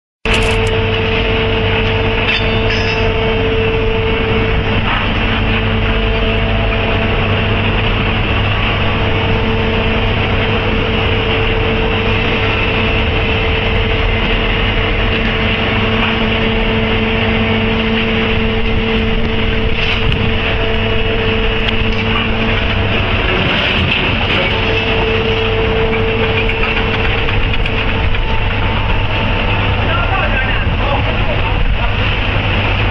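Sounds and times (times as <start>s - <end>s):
heavy machinery running: 0.2s - 32.9s.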